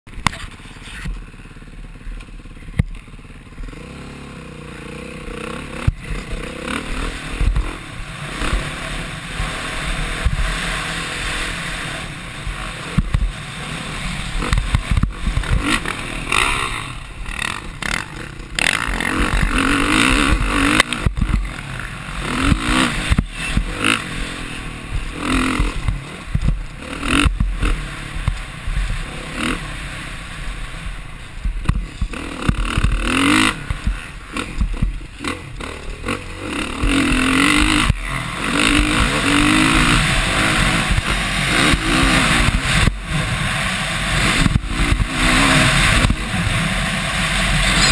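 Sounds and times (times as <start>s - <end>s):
dirt bike engine revving: 0.1s - 47.9s.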